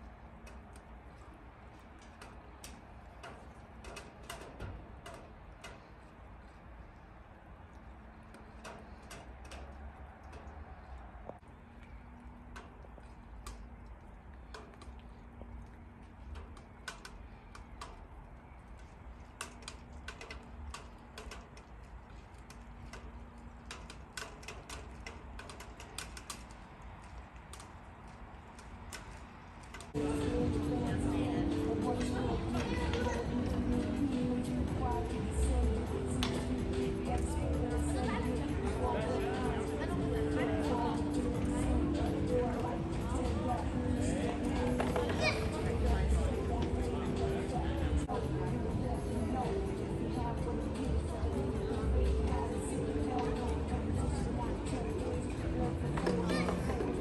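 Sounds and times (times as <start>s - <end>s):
low outdoor rumble: 0.0s - 57.0s.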